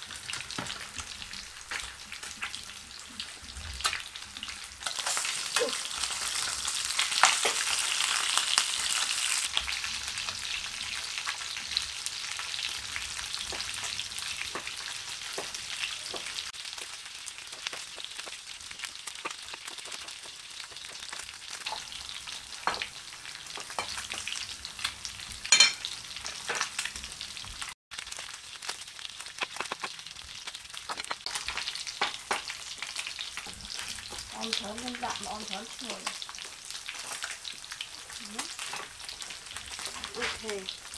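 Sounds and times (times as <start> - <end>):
fish sizzling in oil: 0.0 - 40.9.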